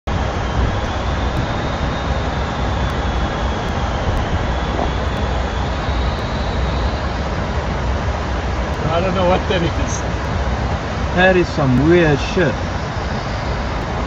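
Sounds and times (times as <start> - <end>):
airflow rush inside airliner: 0.0 - 14.0
engine rumble: 0.0 - 14.0
faint high whine: 0.1 - 14.0.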